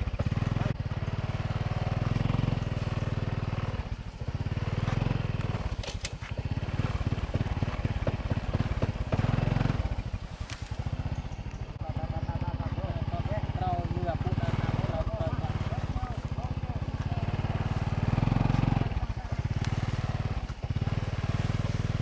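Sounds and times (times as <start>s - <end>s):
small motorbike engine running: 0.0s - 22.0s.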